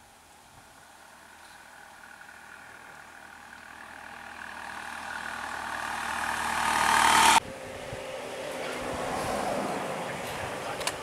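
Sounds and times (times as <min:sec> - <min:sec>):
vehicle engine approaching: 0:00.2 - 0:11.0
steady engine sound: 0:00.3 - 0:11.0.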